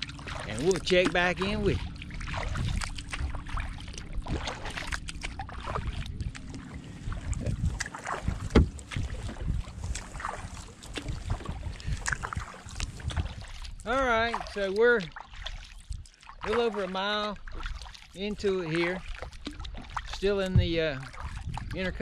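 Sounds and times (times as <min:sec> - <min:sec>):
wind rumbling on microphone: 0:00.0 - 0:16.7, 0:17.4 - 0:22.0
kayak paddle swishing through water: 0:00.0 - 0:22.0.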